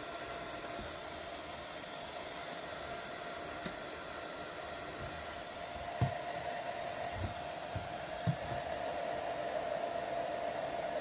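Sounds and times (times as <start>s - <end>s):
space heater fan whirring: 0.0s - 11.0s.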